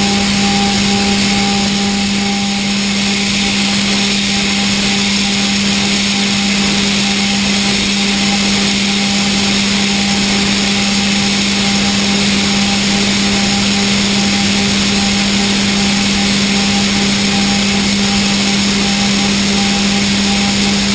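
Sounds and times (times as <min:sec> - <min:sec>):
milling machine hum: 0:00.0 - 0:20.9.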